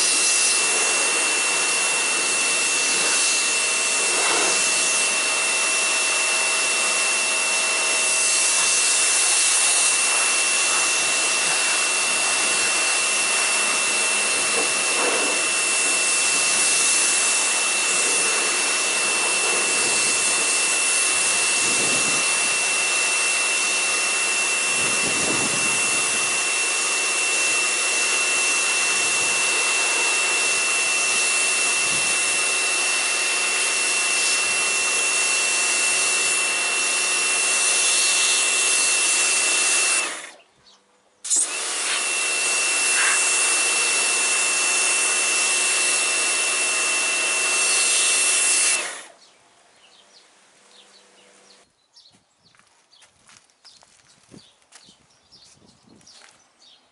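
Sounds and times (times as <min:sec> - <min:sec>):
pressure washer spraying: 0:00.0 - 0:40.4, 0:41.3 - 0:49.1.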